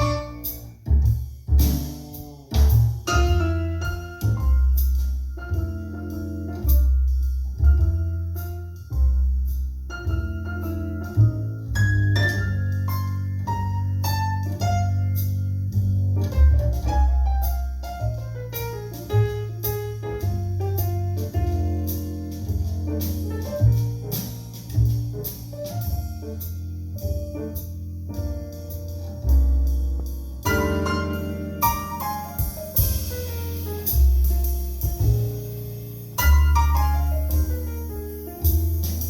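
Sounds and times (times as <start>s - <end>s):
deep sustained bass notes: 0.0s - 39.0s
jazz piano over loudspeakers: 0.0s - 39.0s.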